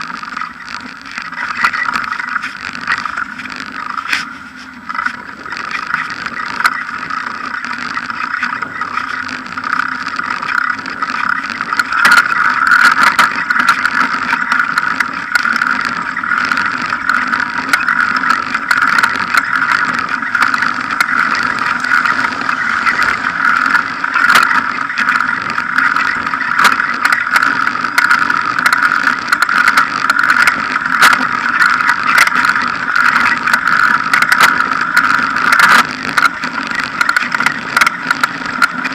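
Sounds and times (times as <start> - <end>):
bicycle rattling over bumps: 0.0 - 38.9
bicycle tyre humming on road: 0.0 - 38.9.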